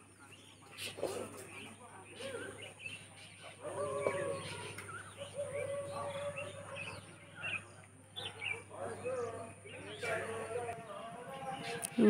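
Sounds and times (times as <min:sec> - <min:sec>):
birds chirping and calling: 0:00.1 - 0:12.0.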